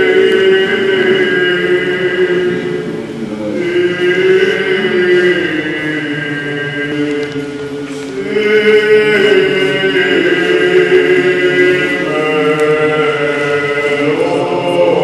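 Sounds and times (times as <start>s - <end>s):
chanters singing slow melody: 0.0s - 15.0s.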